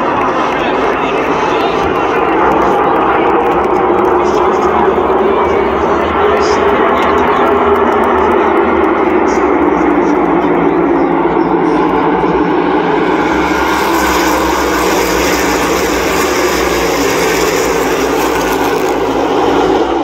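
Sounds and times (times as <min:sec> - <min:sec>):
race cars accelerating past: 0:00.0 - 0:20.0.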